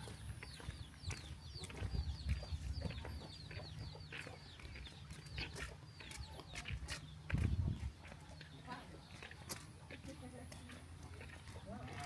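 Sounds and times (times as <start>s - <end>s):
chickens peeping: 0.0s - 10.0s.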